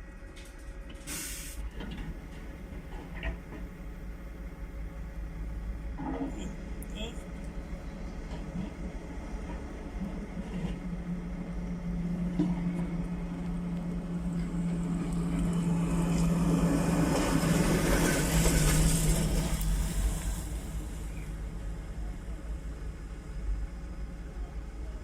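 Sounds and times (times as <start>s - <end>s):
excavator engine and hydraulics humming: 0.0s - 25.0s.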